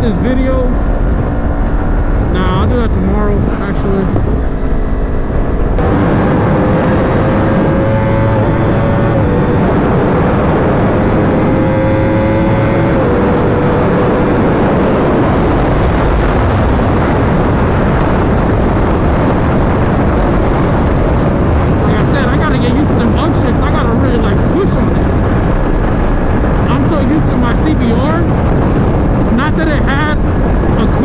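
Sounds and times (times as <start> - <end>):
motorcycle engine accelerating: 0.0 - 31.0
wind noise on microphone: 0.0 - 31.0.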